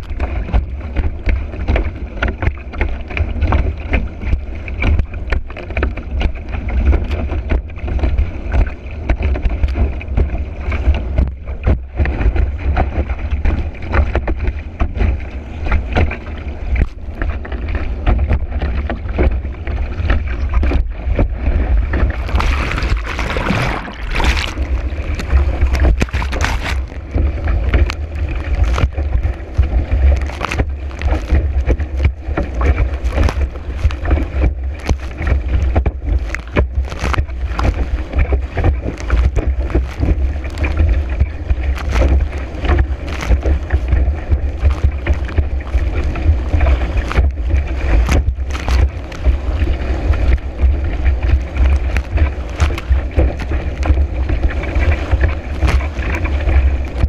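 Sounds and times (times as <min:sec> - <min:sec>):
board slapping on water: 0:00.0 - 0:57.0
wind buffeting microphone: 0:03.3 - 0:57.0.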